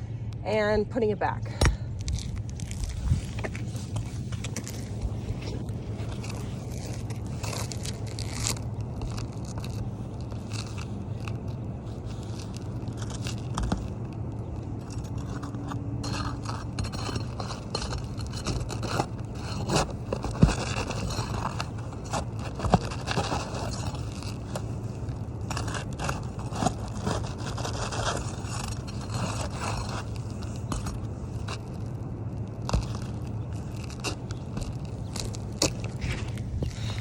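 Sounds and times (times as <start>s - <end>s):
roofing shingle scraping and crunching: 1.7s - 37.0s.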